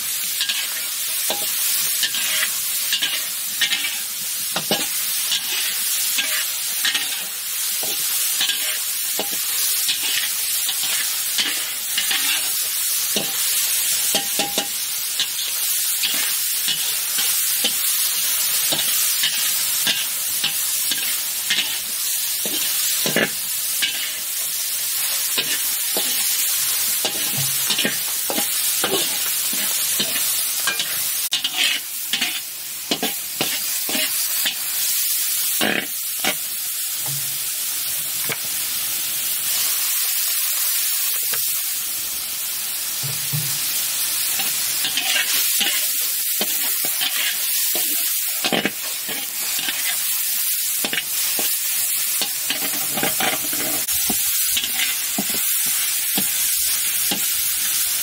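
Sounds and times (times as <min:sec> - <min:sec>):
shallots and garlic sizzling in oil: 0:00.0 - 0:58.0
metal spatula scraping a wok: 0:00.4 - 0:13.4, 0:14.0 - 0:34.7, 0:35.5 - 0:36.5, 0:44.4 - 0:50.2, 0:50.8 - 0:57.3.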